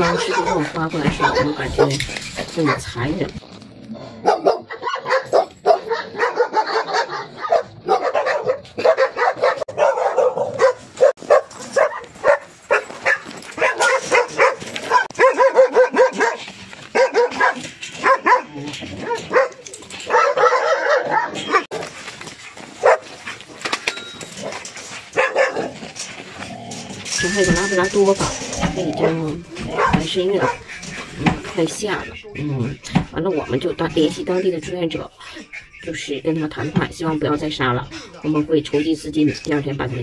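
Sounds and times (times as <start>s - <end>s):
dogs barking: 0.0s - 3.4s, 4.2s - 40.0s.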